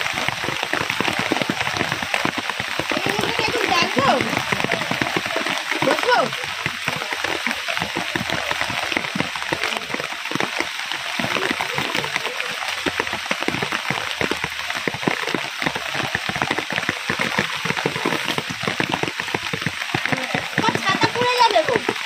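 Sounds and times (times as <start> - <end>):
heavy rain: 0.0 - 22.0
raindrops splattering on hard surfaces: 0.0 - 22.0.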